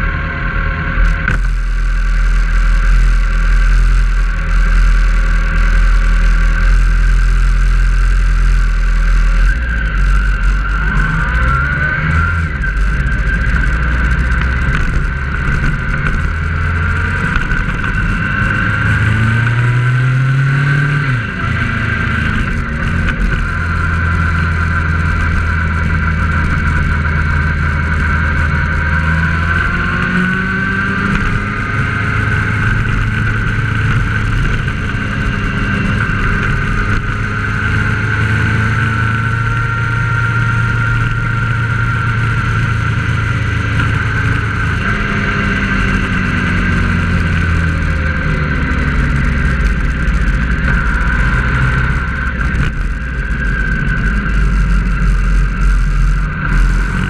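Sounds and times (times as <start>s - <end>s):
steady high whine: 0.0s - 57.0s
vehicle engine: 0.0s - 57.0s.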